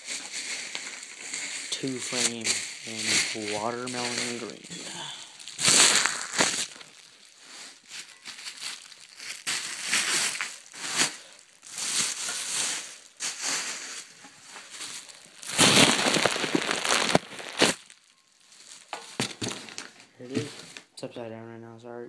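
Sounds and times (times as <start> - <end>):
packaging crinkling and rustling: 0.0 - 20.9.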